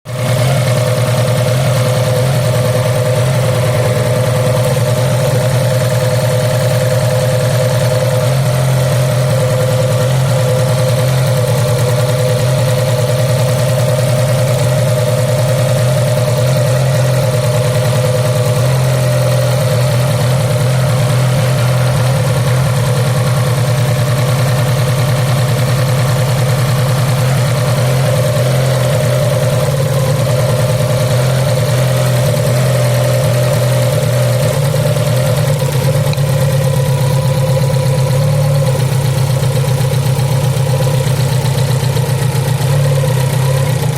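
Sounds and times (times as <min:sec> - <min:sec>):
car engine rough idling: 0:00.0 - 0:43.9.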